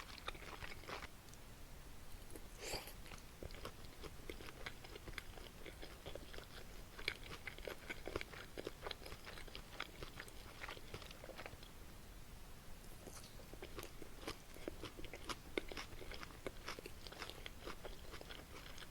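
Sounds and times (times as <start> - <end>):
close-miked chewing: 0.0 - 1.4, 2.2 - 11.7, 12.9 - 18.9.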